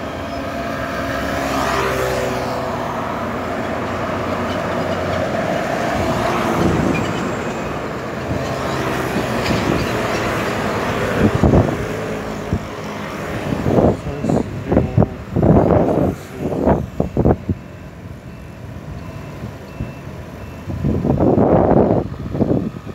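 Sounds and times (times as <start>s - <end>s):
cars and scooters driving by: 0.0s - 22.9s.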